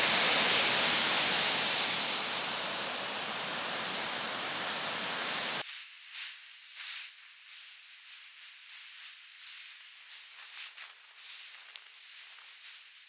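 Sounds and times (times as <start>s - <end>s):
ocean surf hissing: 0.0s - 13.0s.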